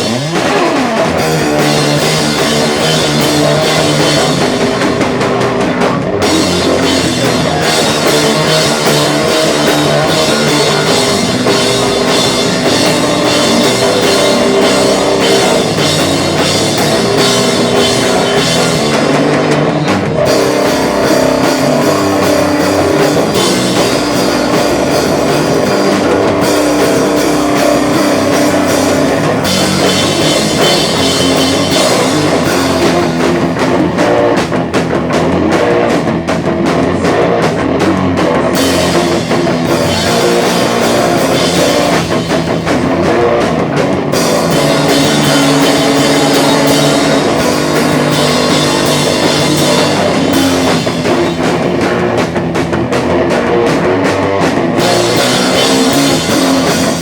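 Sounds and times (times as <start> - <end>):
rock band playing live: 0.0 - 57.0.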